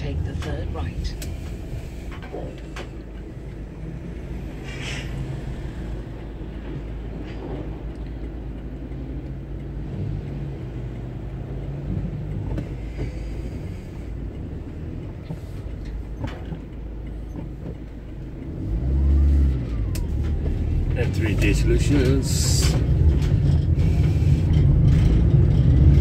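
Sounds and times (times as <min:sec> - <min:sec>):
low engine rumble: 0:00.0 - 0:26.0
traffic engine hum: 0:00.0 - 0:26.0.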